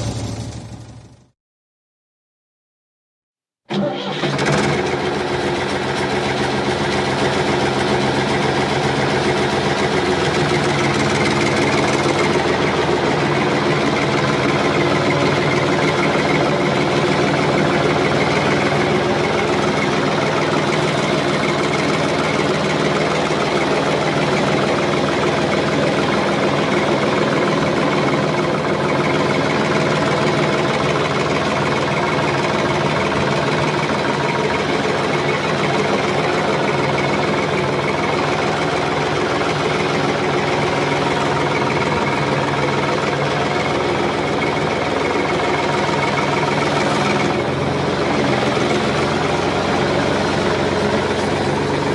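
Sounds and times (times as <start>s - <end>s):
heavy engine drone: 0.0s - 1.4s, 3.7s - 51.9s.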